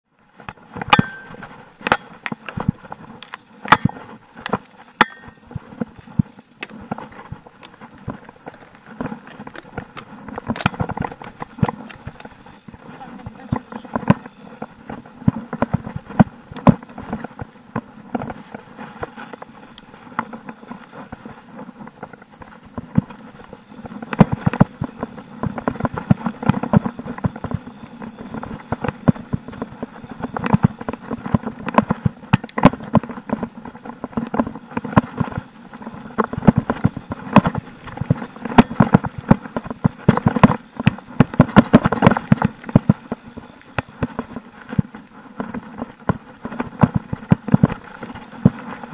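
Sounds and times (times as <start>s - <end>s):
mountain bike rattling over rough trail: 0.1s - 48.9s.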